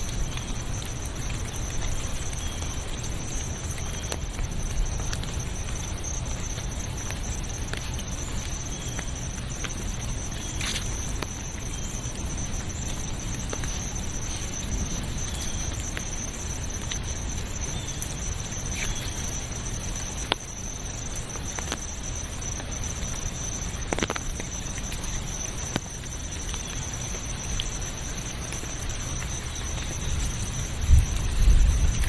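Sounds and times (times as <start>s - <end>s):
high-pitched insect drone: 0.0s - 32.0s
hiss of rain or running water: 0.0s - 32.0s
sharp ticks: 0.0s - 32.0s.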